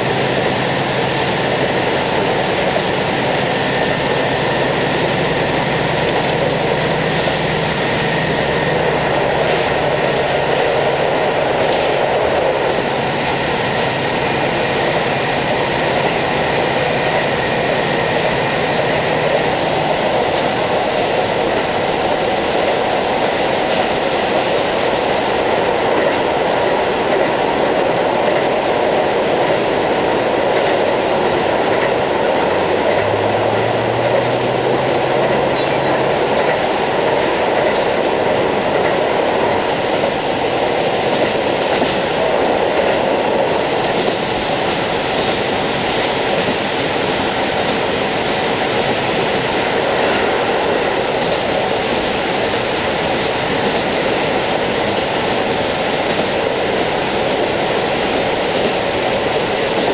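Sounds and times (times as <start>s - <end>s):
train engine and wheels rumbling: 0.0s - 59.9s.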